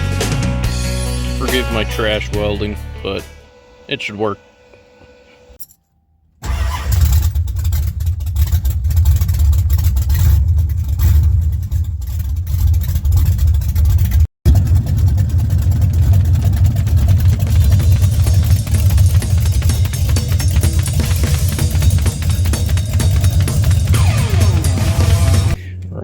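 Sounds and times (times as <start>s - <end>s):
loud car engine rumbling: 0.0s - 5.6s, 6.4s - 26.0s.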